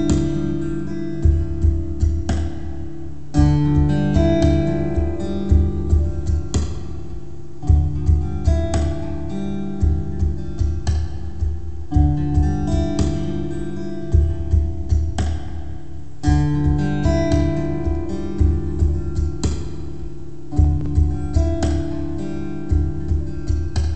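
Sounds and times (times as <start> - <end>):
acoustic guitar picking and strumming: 0.0 - 23.9.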